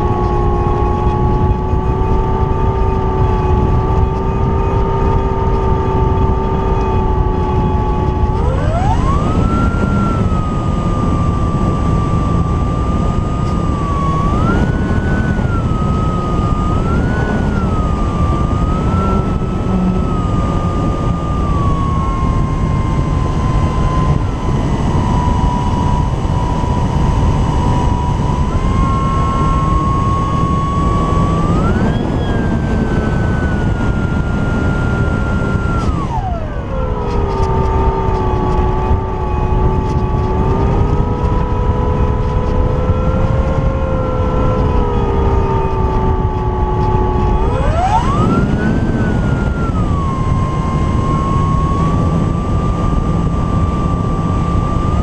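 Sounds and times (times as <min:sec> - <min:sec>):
electric motor and propeller whining: 0:00.0 - 0:55.0
wind rush over microphone: 0:00.0 - 0:55.0.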